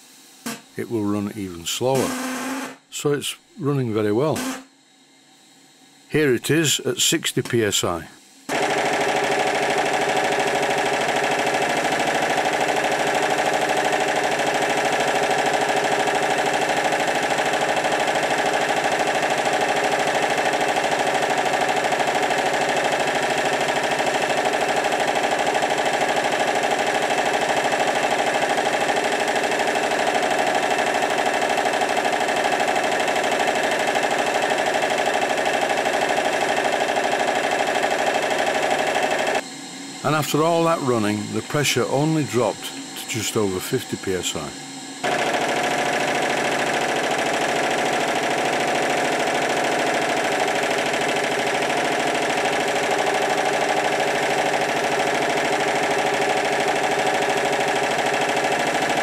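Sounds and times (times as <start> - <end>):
model steam engine running: 8.5 - 39.4, 40.1 - 59.0.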